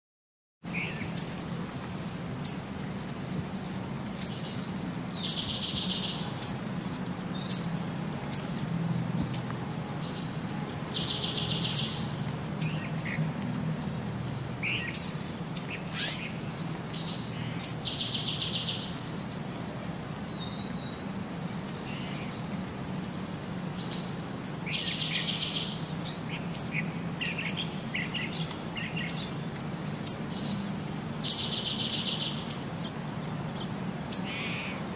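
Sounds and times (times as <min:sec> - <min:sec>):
songbirds chirping: 0:00.6 - 0:34.9.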